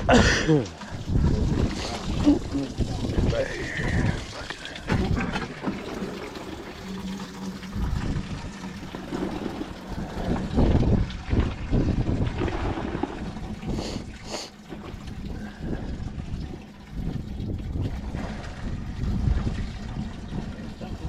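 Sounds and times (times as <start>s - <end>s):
water around boat hull: 0.0s - 21.0s
wind buffeting microphone: 0.0s - 21.0s.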